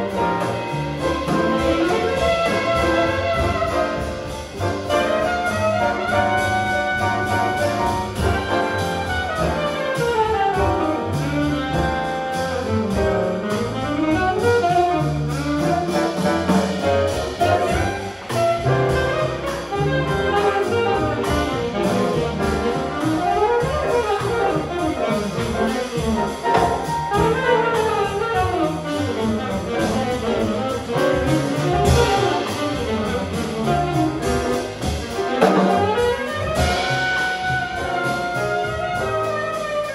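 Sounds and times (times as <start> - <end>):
double bass: 0.0 - 39.9
drums with cymbal strokes: 0.0 - 39.9
piano: 0.0 - 39.9
saxophone jazz solo: 0.0 - 39.9.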